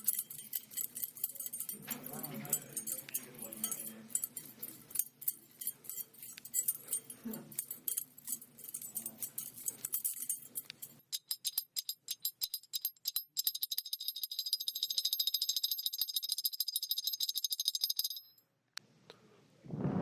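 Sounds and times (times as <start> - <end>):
small metal pieces jingling: 0.0 - 18.4.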